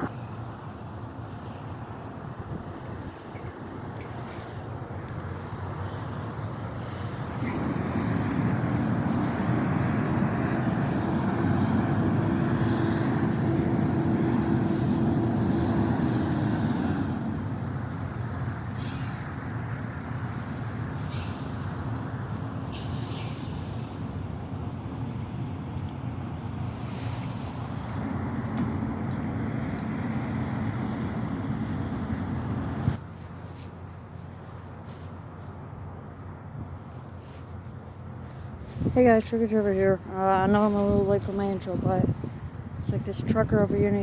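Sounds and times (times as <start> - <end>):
large vehicle engine drone: 0.0 - 44.0
road traffic: 0.0 - 44.0.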